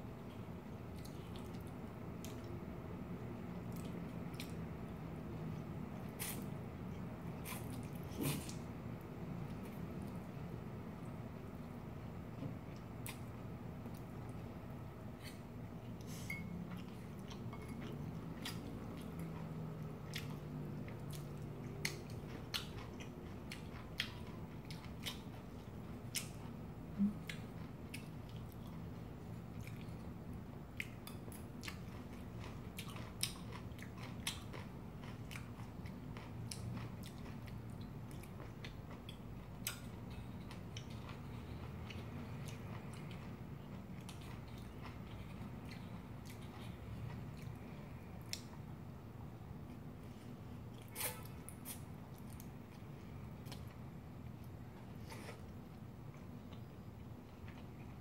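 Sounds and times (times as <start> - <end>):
chewing food: 3.3 - 8.7, 15.2 - 48.7, 49.6 - 58.0.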